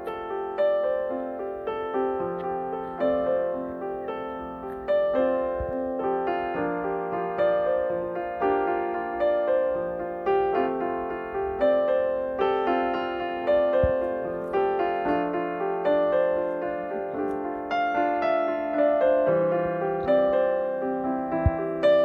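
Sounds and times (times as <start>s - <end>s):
slow piano piece: 0.0s - 22.0s.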